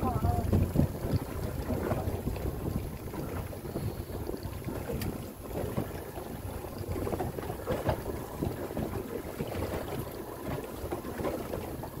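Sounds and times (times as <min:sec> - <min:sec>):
water slapping against boat hull: 0:00.0 - 0:12.0
wind buffeting the microphone: 0:00.0 - 0:12.0.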